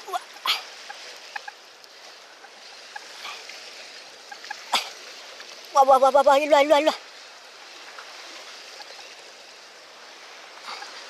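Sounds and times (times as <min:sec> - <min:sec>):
sea washing on shore: 0:00.0 - 0:11.0.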